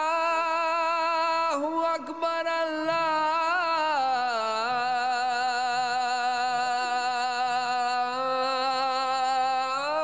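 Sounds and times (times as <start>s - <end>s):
man singing call to prayer: 0.0s - 10.0s.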